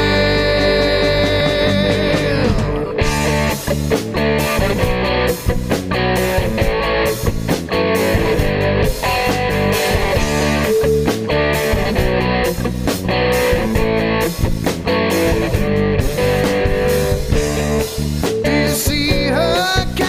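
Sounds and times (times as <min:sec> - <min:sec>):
bass guitar: 0:00.0 - 0:20.0
drums: 0:00.0 - 0:20.0
electric guitar: 0:00.0 - 0:20.0.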